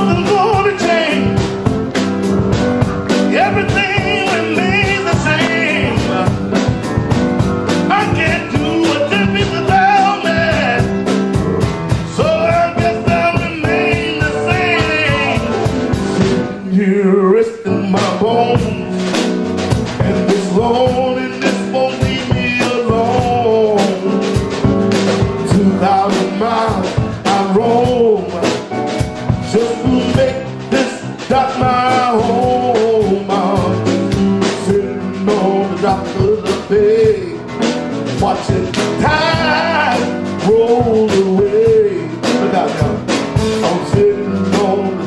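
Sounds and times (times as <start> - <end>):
man singing: 0.0 - 2.0, 2.8 - 45.0
blues band playing: 0.0 - 45.0.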